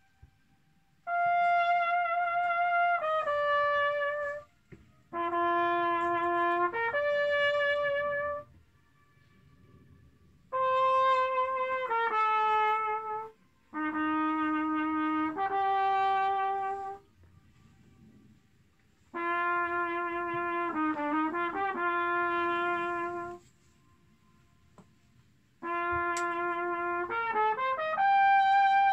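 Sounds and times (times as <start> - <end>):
brass horn playing slow notes: 0.0 - 18.1, 19.0 - 24.3, 25.6 - 28.9
horn echo: 1.0 - 17.2, 19.0 - 23.9, 25.6 - 28.9.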